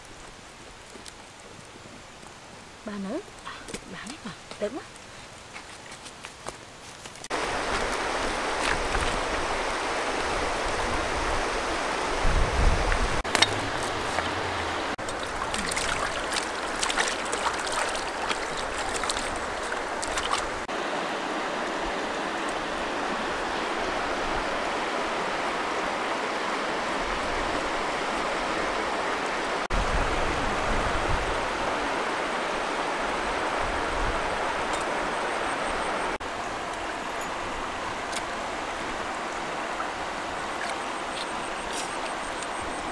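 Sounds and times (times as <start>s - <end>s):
river running over stones: 0.0s - 42.9s.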